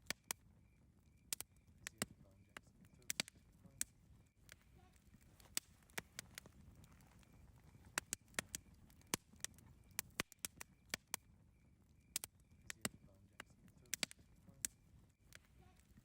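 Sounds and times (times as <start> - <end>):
campfire crackling pops: 0.0 - 16.0
low rush of flames: 0.3 - 16.0.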